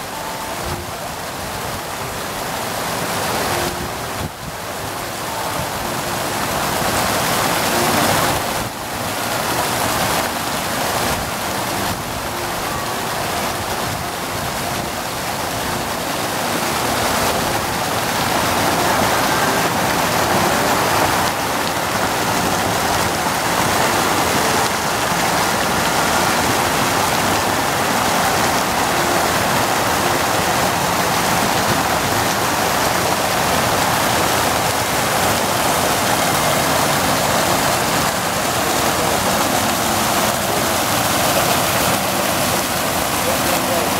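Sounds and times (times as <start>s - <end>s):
fountain water splashing: 0.0s - 43.9s.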